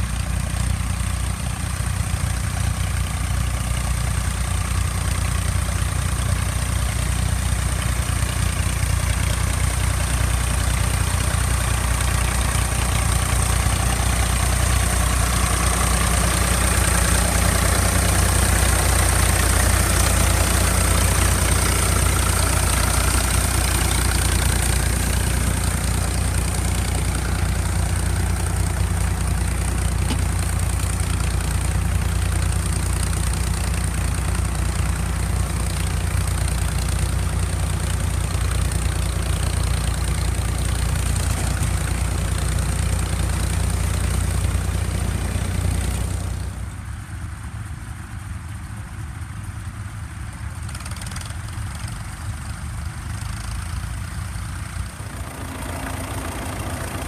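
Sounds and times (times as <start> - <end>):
distant tractor engines: 0.0 - 57.0
tractor engine running: 0.0 - 57.0.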